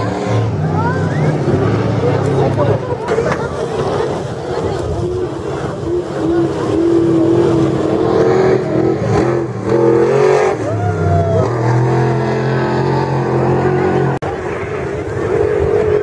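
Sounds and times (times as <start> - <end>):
engine revving: 0.0 - 16.0
truck engines running rough: 0.0 - 16.0.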